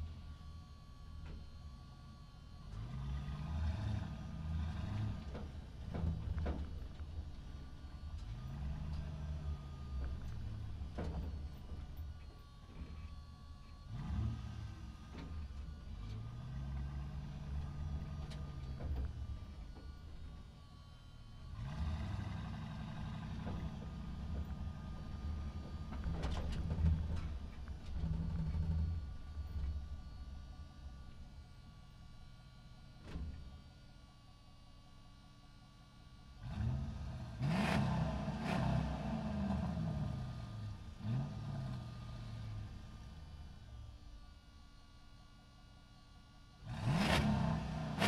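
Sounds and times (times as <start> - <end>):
truck engine while driving: 0.0 - 48.0.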